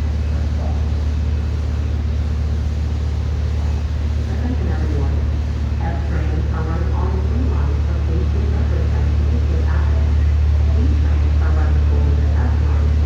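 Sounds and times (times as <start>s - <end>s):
subway train low rumble: 0.0s - 13.0s.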